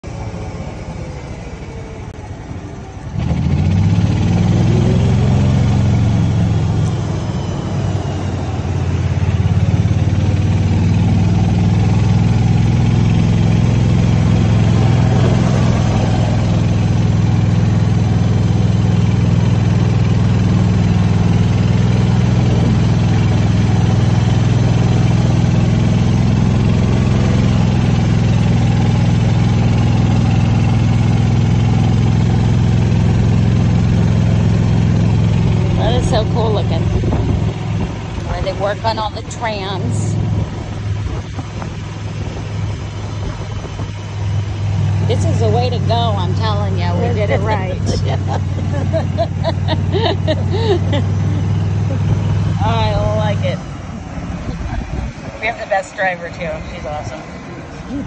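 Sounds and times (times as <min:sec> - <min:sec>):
golf cart motor humming: 0:00.0 - 0:58.0.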